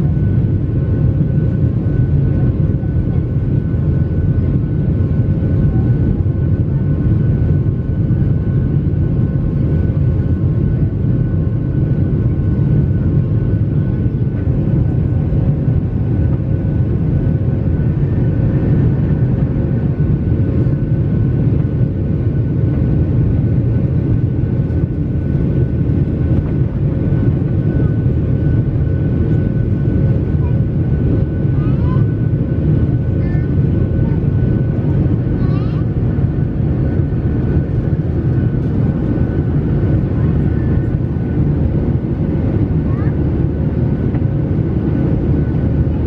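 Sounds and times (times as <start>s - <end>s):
jet engine cabin rumble: 0.0s - 46.0s.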